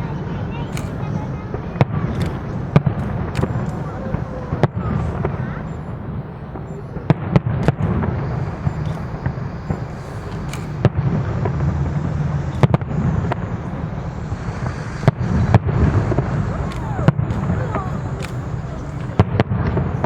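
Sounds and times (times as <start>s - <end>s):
low rumble of firework bursts: 0.0s - 20.0s
sharp loud firework cracks: 0.0s - 20.0s.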